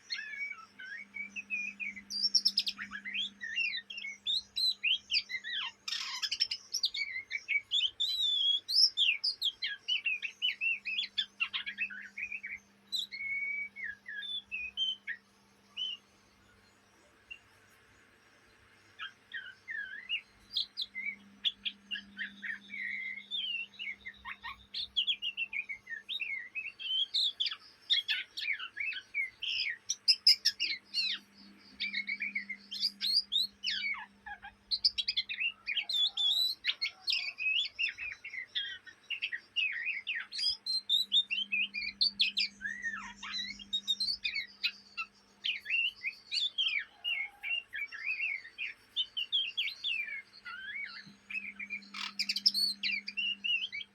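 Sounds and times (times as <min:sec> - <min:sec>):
songbird chirping and whistling: 0:00.0 - 0:53.9.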